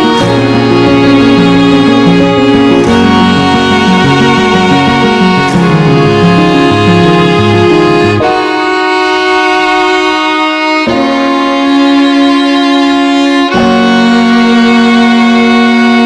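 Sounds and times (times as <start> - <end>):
music of long held notes: 0.0 - 16.0.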